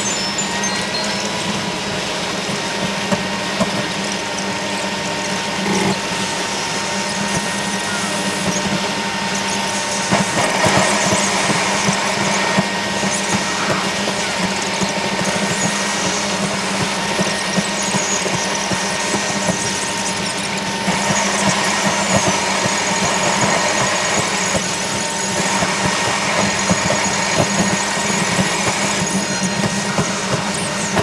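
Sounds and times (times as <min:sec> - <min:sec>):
thin high whine: 0:00.0 - 0:31.0.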